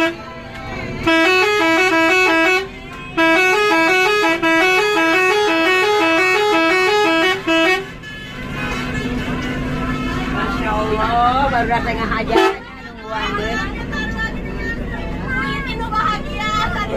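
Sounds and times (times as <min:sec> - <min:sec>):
multi-tone musical bus horn: 0:00.0 - 0:16.9.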